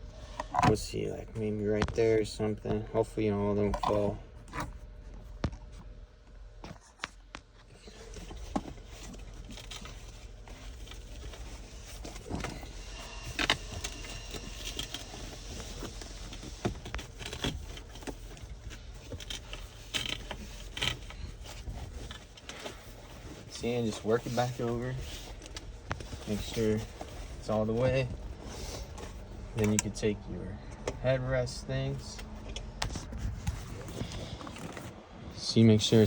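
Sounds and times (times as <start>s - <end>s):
leather rustling and scraping: 3.7s - 35.1s.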